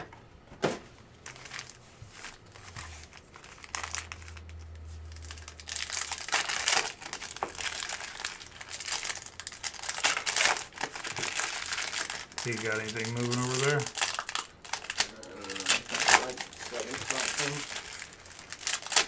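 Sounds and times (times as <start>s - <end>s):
faint low hum: 0.0s - 19.0s
plastic wrapping crinkling: 0.7s - 19.0s.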